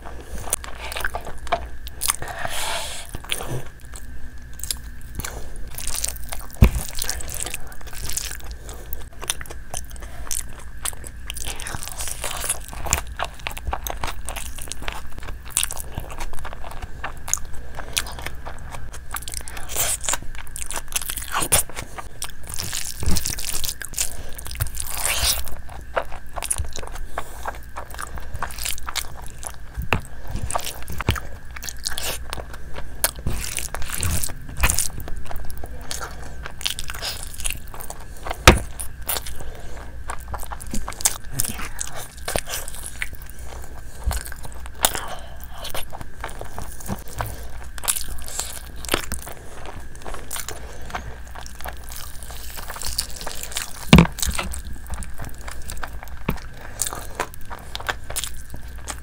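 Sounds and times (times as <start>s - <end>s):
crunchy bites: 0.0s - 59.0s
wet chewing: 0.0s - 59.0s.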